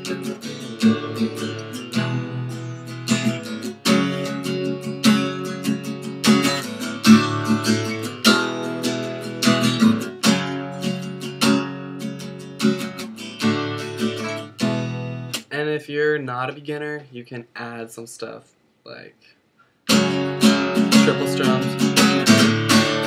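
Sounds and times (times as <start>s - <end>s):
acoustic guitar strumming chords: 0.0s - 15.6s, 19.9s - 23.0s.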